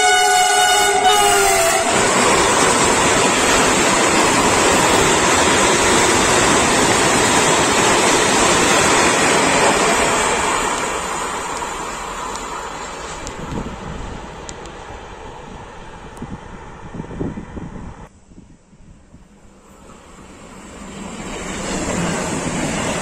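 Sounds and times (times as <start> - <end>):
train wheels rumbling on rail: 0.0 - 18.1, 19.0 - 23.0.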